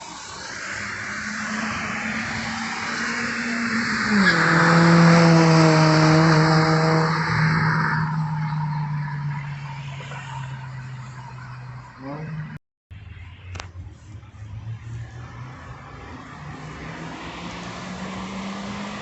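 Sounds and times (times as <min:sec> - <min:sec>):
car driving by: 0:00.0 - 0:19.0.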